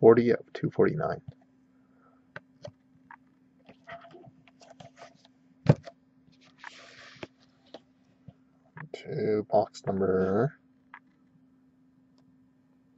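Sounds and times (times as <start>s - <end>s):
low electrical hum: 0.0s - 12.9s.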